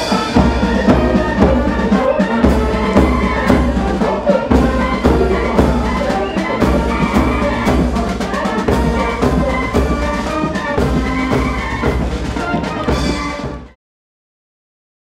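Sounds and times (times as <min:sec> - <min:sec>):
brass band march: 0:00.0 - 0:13.8.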